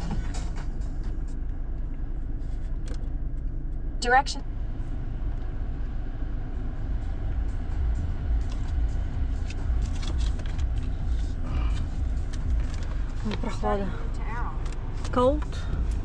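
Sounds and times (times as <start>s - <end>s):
low rumble inside car: 0.0s - 16.0s.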